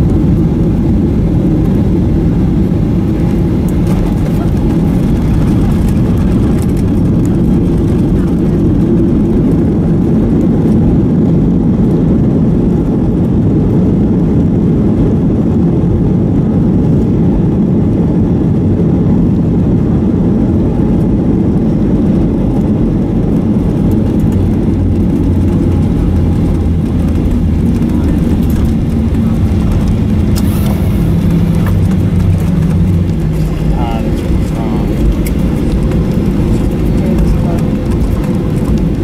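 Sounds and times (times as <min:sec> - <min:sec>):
jet engine and airflow rumble: 0:00.0 - 0:39.0.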